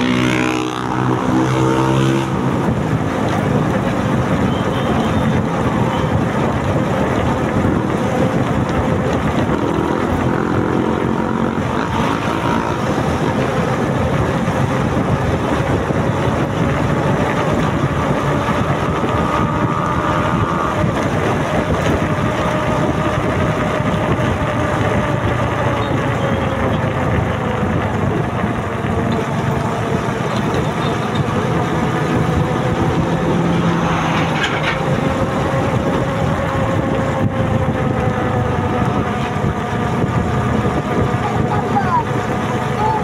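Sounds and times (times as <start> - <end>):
motorcycle engine running: 0.0 - 43.0
road noise: 0.0 - 43.0
wind noise: 0.0 - 43.0.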